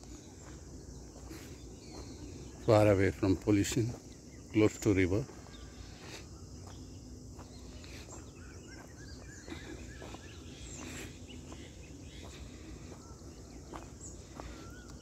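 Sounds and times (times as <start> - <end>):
insect hiss: 0.0 - 15.0
small birds chirping: 0.0 - 15.0.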